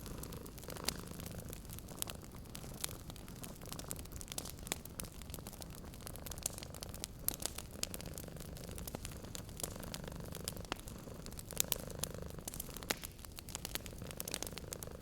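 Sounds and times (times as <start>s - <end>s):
cat purring: 0.0s - 15.0s
wood fire crackling and popping: 0.0s - 15.0s.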